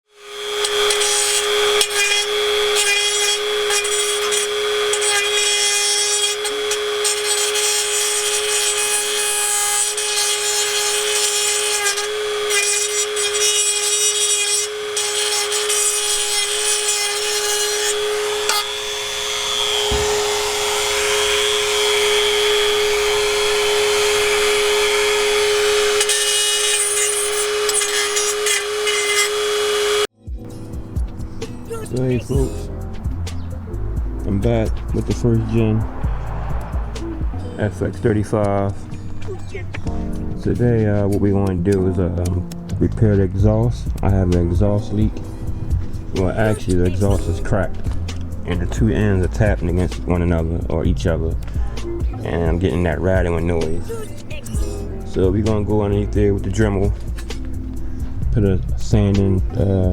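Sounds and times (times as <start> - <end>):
rotary tool whining: 0.0 - 59.9
sanding pad grinding metal: 0.0 - 59.9.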